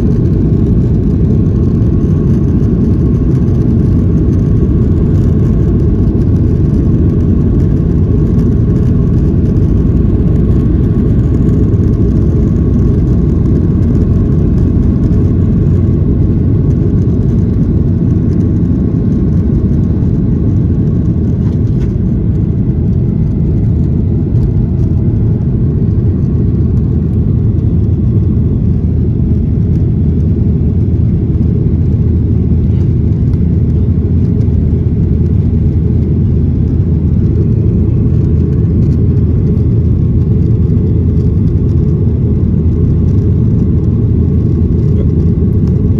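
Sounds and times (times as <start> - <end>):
airplane cabin rumble: 0.0 - 45.9.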